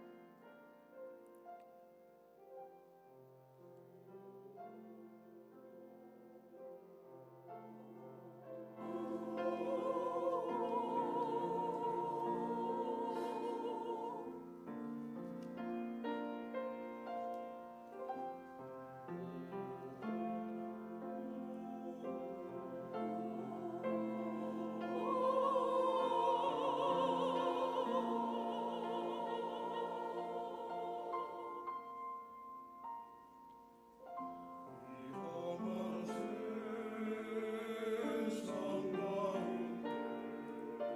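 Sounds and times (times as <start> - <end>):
piano accompaniment: 0.0 - 40.9
church choir singing: 4.6 - 33.0, 34.2 - 40.9.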